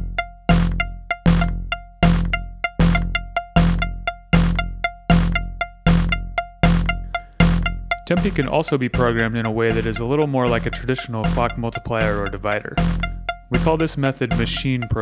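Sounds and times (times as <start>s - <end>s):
deep bass thump: 0.0s - 15.0s.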